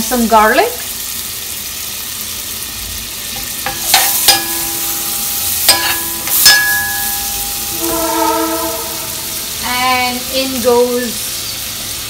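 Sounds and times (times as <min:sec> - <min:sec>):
butter and garlic sizzling: 0:00.0 - 0:12.0.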